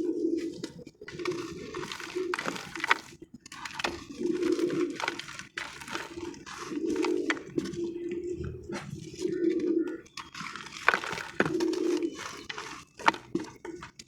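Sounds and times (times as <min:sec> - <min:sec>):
crackly crunches: 0:00.2 - 0:14.0.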